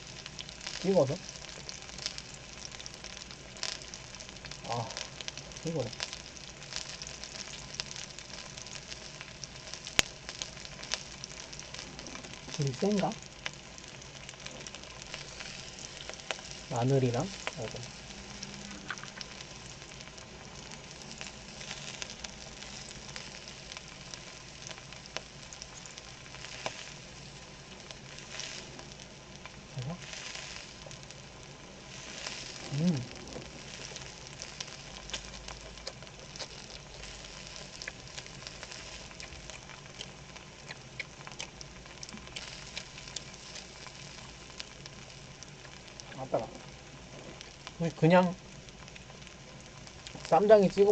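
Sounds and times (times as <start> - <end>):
meat sizzling in a pan: 0.0 - 50.9
fat popping and spattering: 0.1 - 50.8.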